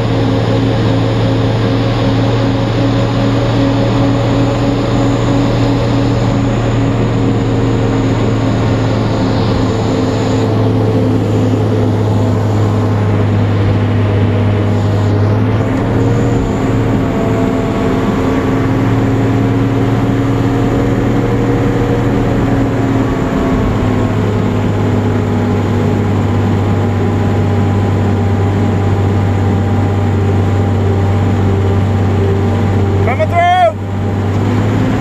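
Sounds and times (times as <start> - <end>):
deep engine running: 0.0 - 35.0.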